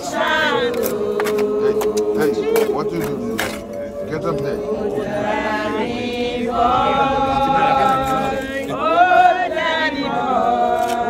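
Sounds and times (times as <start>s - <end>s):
group of people singing: 0.0s - 11.0s.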